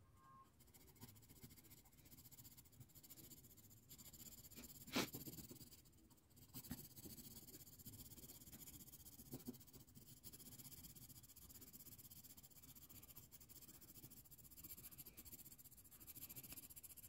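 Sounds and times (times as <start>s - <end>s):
pencil scratching on paper: 0.5s - 17.0s.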